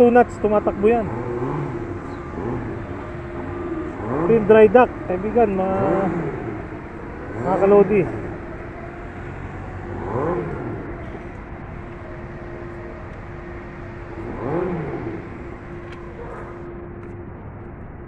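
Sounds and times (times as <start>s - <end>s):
vehicle engine revving: 0.0s - 17.9s.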